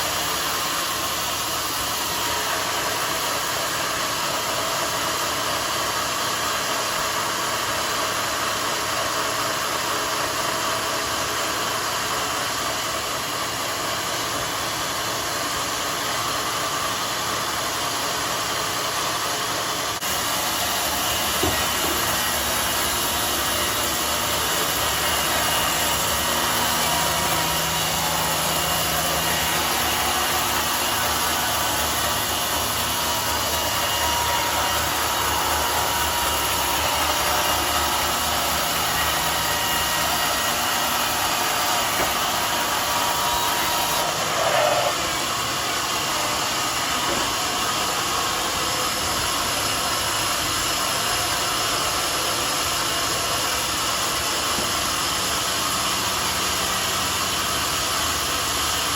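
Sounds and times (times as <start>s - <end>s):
saw hissing: 11.5s - 58.9s.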